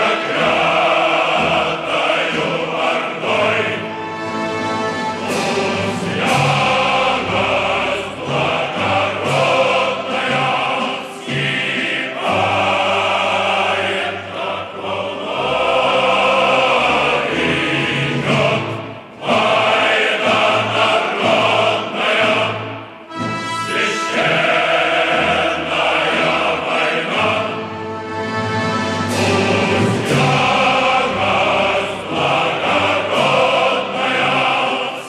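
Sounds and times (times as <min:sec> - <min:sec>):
choir singing sustained chords: 0:00.0 - 0:35.0.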